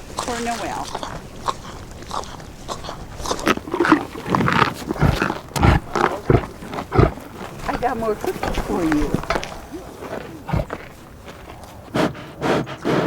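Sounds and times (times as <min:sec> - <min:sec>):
reindeer grunting: 0:00.0 - 0:13.0.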